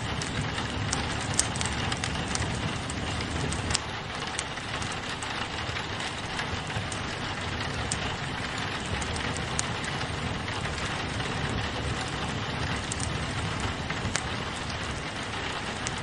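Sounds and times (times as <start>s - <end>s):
low rumble: 0.0s - 16.0s
rain on a window: 0.0s - 16.0s
wood fire crackling and popping: 0.0s - 16.0s.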